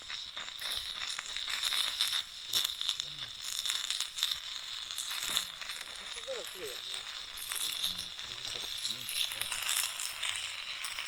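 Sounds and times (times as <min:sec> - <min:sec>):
campfire crackling: 0:00.0 - 0:11.0
steady high-pitched hiss: 0:00.0 - 0:11.0.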